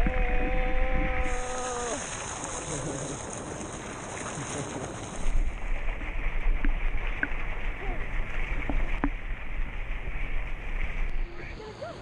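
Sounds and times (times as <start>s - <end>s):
pool water lapping and splashing: 0.0s - 12.0s.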